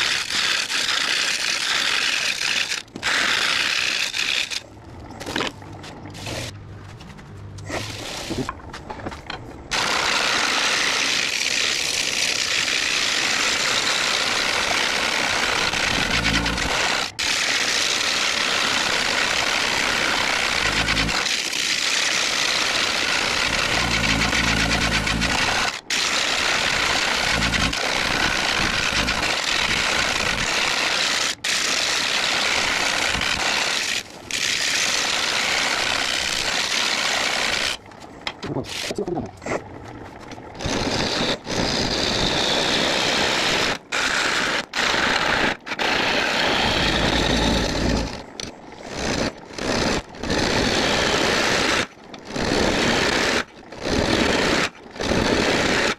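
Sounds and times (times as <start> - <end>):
lathe tool cutting wood: 0.0 - 4.6, 9.7 - 37.8, 40.6 - 55.9.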